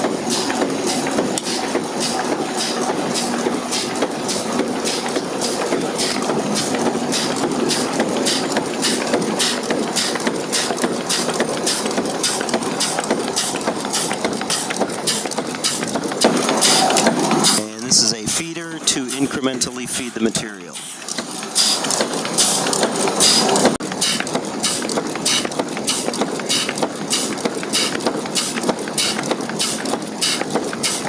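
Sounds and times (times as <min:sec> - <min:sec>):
continuous machine hum: 0:00.0 - 0:31.0.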